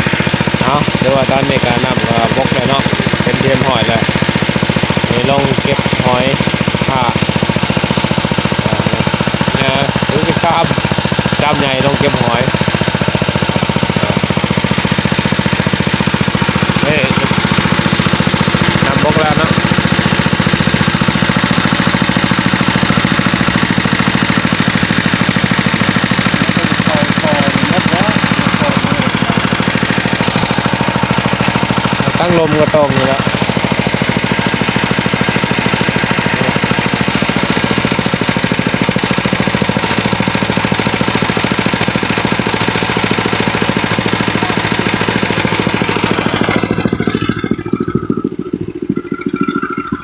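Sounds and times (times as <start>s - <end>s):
engine running with fast knocking: 0.0s - 50.0s.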